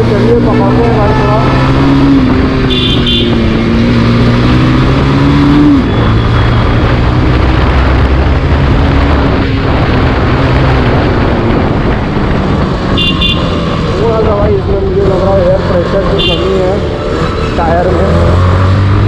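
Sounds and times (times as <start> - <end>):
wind rush on microphone: 0.0 - 19.0.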